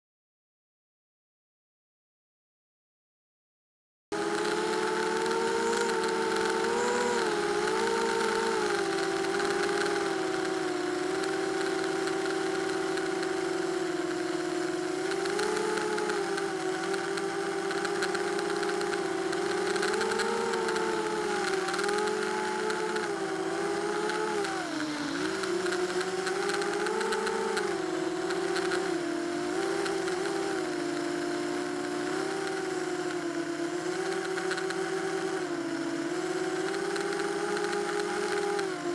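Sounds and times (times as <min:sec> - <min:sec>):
drone motors whining: 0:04.1 - 0:38.9.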